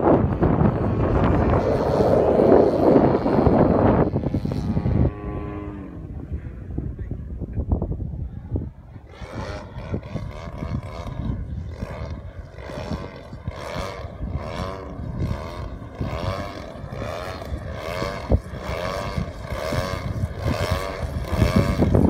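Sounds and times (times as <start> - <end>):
model plane engine wavering: 0.0 - 22.0
wind rumble on microphone: 0.0 - 22.0.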